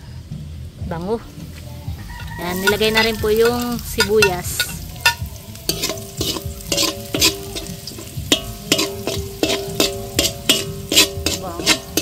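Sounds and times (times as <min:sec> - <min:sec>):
vegetables sizzling in oil: 0:00.2 - 0:12.0
metal spoon scraping a wok: 0:02.0 - 0:12.0.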